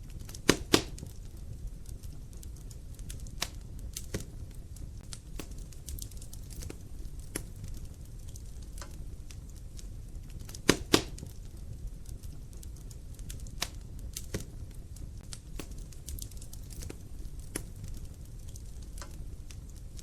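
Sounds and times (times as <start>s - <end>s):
logs burning in a fireplace: 0.0s - 20.0s.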